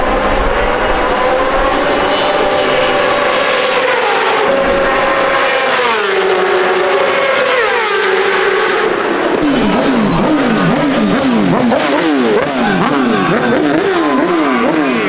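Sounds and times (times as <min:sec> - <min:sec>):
racing motorcycles passing by: 0:00.0 - 0:15.0.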